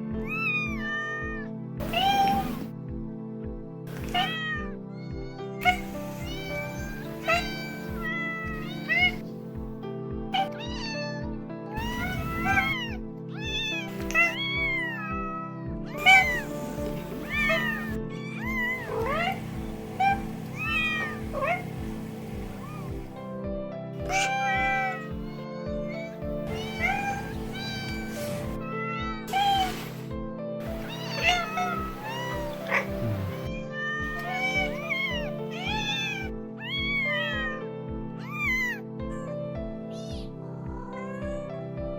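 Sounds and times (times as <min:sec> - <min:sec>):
background music with steady beat: 0:00.0 - 0:41.9
cats meowing: 0:00.2 - 0:02.7, 0:03.9 - 0:09.2, 0:10.4 - 0:23.2, 0:24.0 - 0:37.6, 0:38.2 - 0:39.2.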